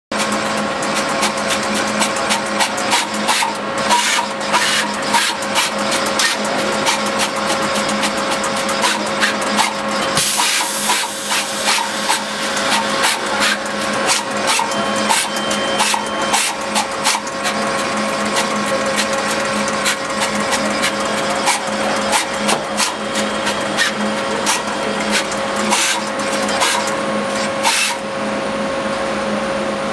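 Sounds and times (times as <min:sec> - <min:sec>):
rapid clicks and taps: 0:00.2 - 0:28.0
motors humming and whining: 0:00.2 - 0:29.9.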